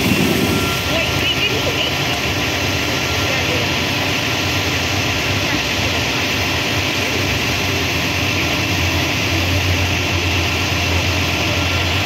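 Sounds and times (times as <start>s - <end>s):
fire engine pump roaring: 0.0s - 12.0s.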